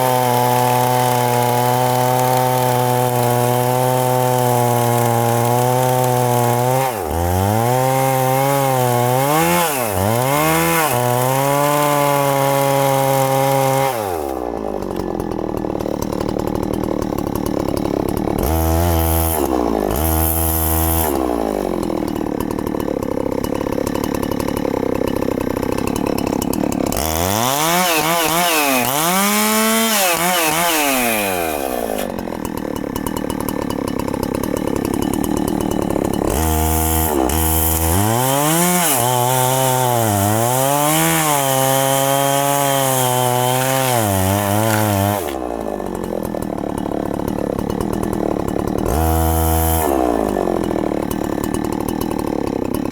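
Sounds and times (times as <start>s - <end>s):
chainsaw cutting into tree trunk: 0.0s - 52.9s.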